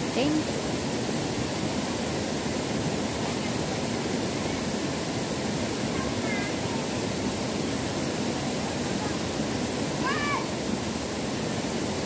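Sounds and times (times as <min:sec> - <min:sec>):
waterfall pouring onto rocks: 0:00.2 - 0:12.0.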